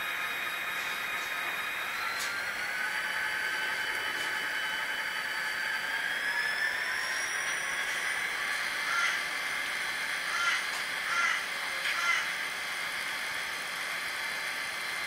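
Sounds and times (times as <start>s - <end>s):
model train motor whining: 0.0s - 15.0s.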